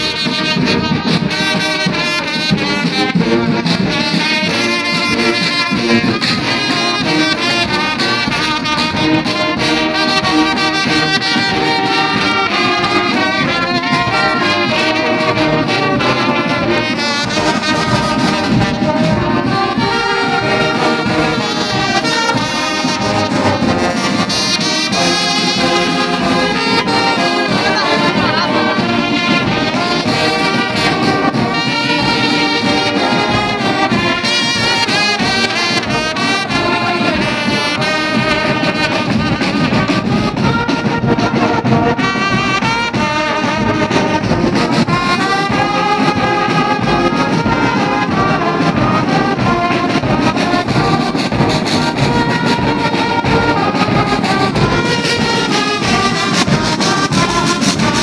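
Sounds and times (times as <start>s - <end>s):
brass band playing: 0.0s - 58.0s.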